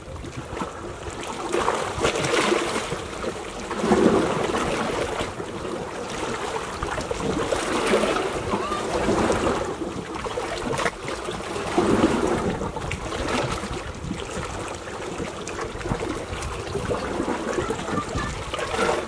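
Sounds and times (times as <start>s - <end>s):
small waves lapping at shore: 0.0s - 19.0s.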